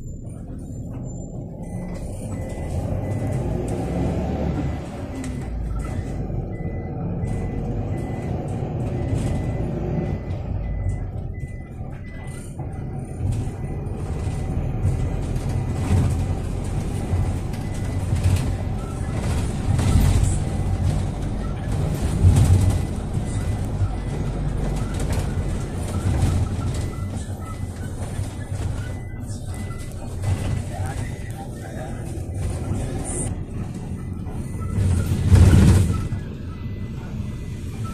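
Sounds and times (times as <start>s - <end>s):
engine and road rumble: 0.0s - 37.9s.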